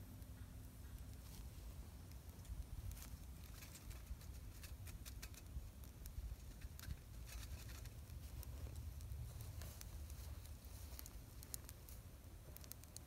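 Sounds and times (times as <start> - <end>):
twig fire crackling: 0.0 - 13.0.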